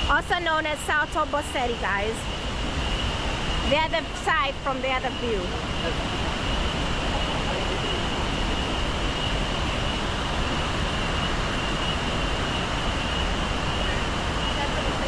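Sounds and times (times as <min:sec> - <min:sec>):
high-pitched whine: 0:00.0 - 0:15.0
waterfall roar: 0:00.0 - 0:15.0.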